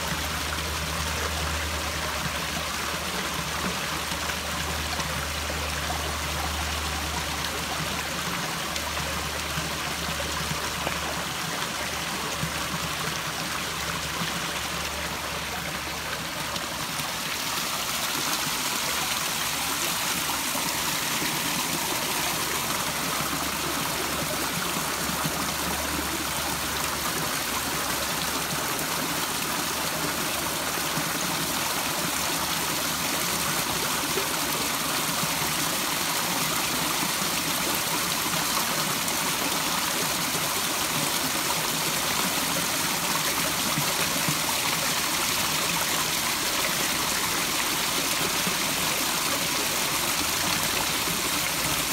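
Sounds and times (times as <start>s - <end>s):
water trickling into pond: 0.0s - 51.9s.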